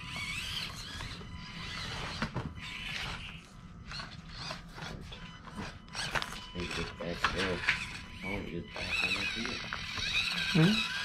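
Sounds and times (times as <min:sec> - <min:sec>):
small electric motors whirring: 0:00.0 - 0:11.0.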